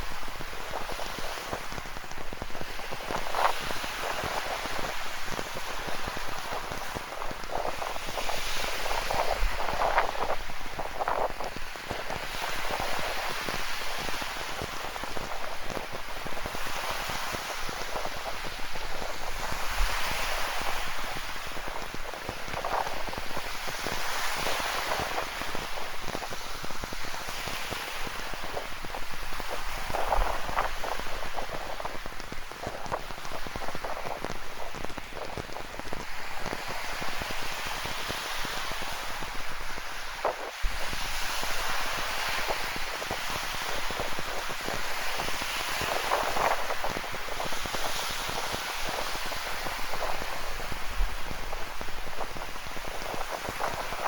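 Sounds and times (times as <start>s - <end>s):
ocean waves washing: 0.0s - 54.0s
steady rain: 0.0s - 54.0s.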